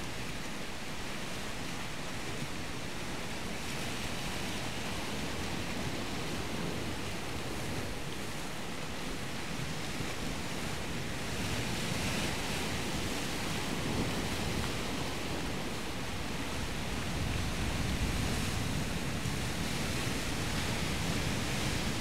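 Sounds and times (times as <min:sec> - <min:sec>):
sea surf rushing: 0:00.0 - 0:22.0
wind noise on microphone: 0:00.0 - 0:22.0.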